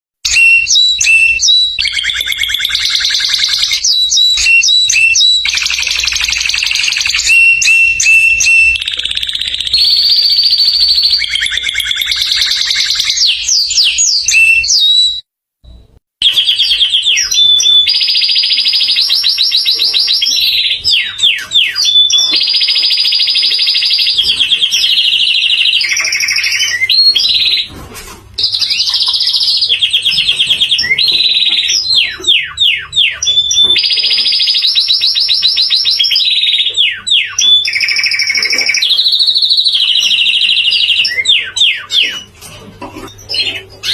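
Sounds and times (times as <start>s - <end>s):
canary singing trills: 0.2s - 15.2s, 16.2s - 27.8s, 28.4s - 43.9s.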